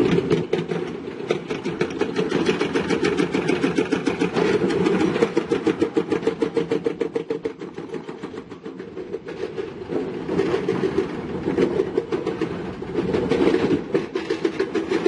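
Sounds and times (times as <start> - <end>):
diesel engine clattering: 0.0 - 15.0.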